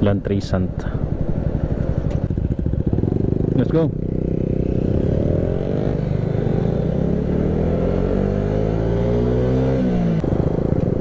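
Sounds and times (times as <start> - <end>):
motorcycle engine accelerating: 1.0 - 11.0.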